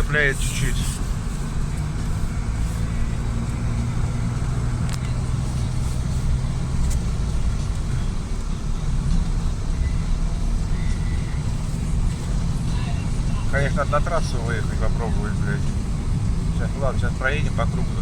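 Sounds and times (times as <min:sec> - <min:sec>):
car engine humming inside cabin: 0:00.0 - 0:18.0.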